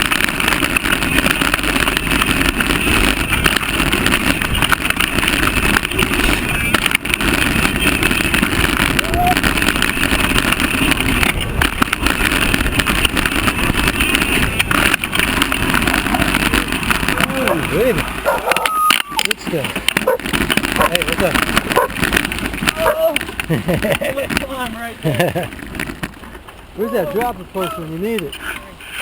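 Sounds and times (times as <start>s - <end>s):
wind rushing over microphone: 0.0s - 27.6s
tyre rumble on trail: 0.0s - 29.0s.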